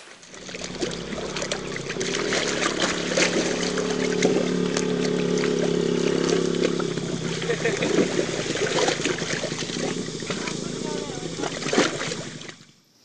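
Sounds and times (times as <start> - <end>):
elephant splashing water: 0.0 - 12.7
water dripping: 0.0 - 12.7
mechanical hum: 0.2 - 12.8.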